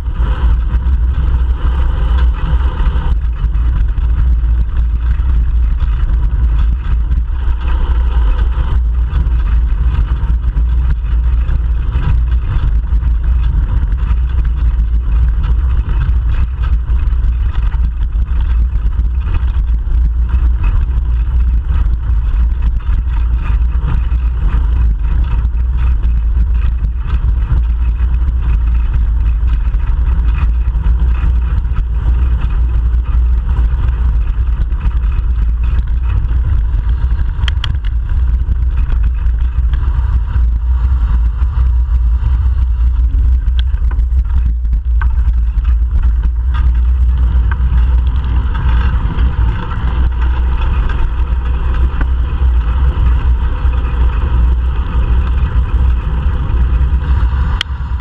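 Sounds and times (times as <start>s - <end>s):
road vibration rumble: 0.0s - 58.0s
wind buffeting: 0.0s - 58.0s.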